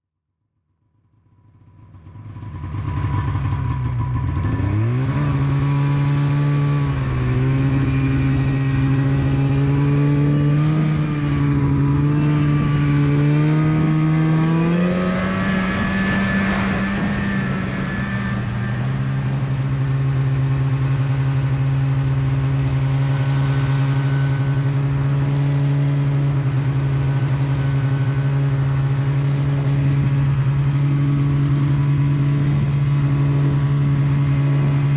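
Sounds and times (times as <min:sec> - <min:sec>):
snowmobile engine running: 0:01.7 - 0:34.9.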